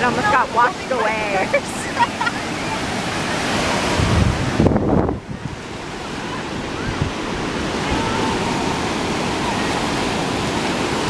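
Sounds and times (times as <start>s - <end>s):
ocean surf washing on beach: 0.0s - 11.0s
wind buffeting microphone: 0.0s - 11.0s.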